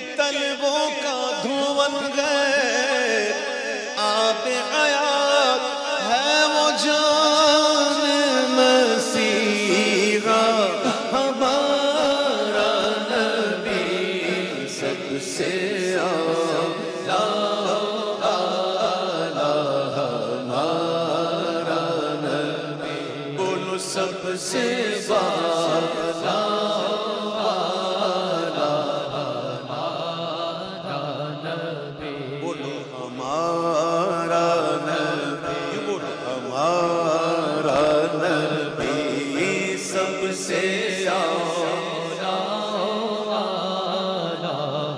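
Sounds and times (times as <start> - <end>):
man singing into a microphone: 0.0 - 44.9.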